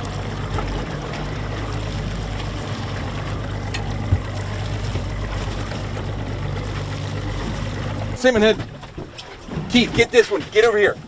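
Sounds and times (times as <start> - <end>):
outboard motor idling: 0.0 - 11.0
water noise: 0.0 - 11.0
wind: 0.0 - 11.0.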